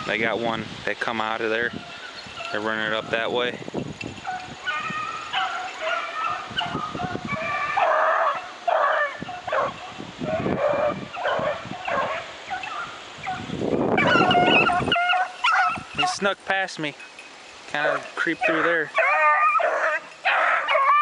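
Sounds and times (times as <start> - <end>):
hounds baying and yelping: 1.7 - 3.3, 4.0 - 16.3, 17.0 - 21.0.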